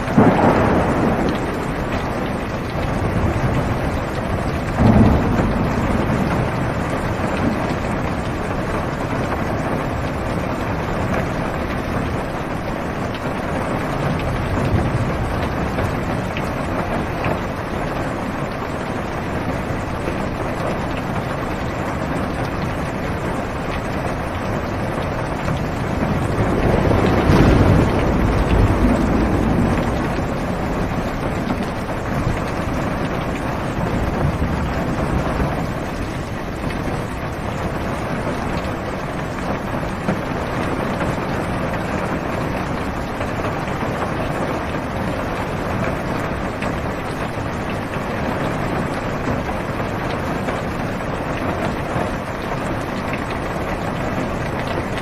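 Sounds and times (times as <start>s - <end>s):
heavy rain on car roof: 0.0s - 55.0s
low rumble of thunder: 0.0s - 55.0s.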